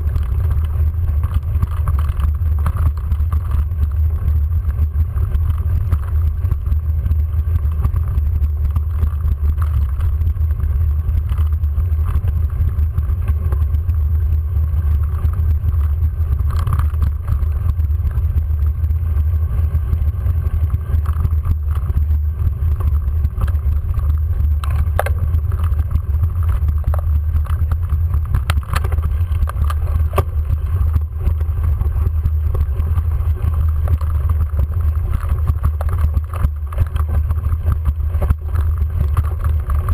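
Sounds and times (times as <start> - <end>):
bike riding vibration: 0.0 - 39.9
wind rumble on microphone: 0.0 - 39.9.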